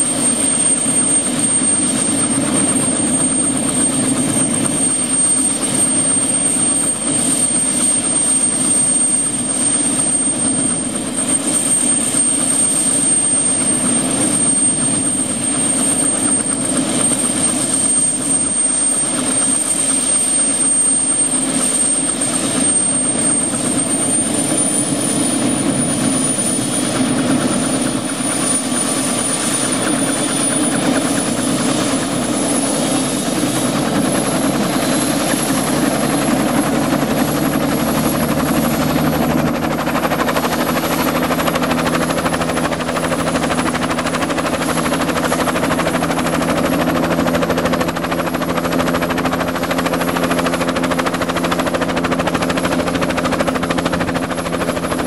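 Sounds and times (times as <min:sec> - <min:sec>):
helicopter running: 0:00.0 - 0:55.0
high turbine whine: 0:00.0 - 0:55.0.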